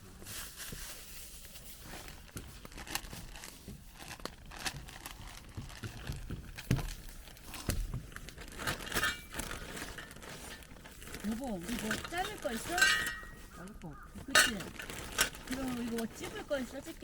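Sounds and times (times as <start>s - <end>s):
material rustling and crinkling: 0.0s - 17.0s.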